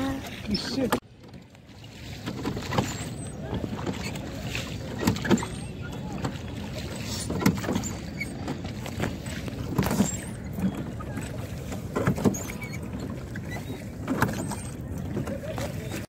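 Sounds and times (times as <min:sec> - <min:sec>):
oars knocking and splashing: 0:00.0 - 0:16.0
water washing: 0:00.0 - 0:16.0.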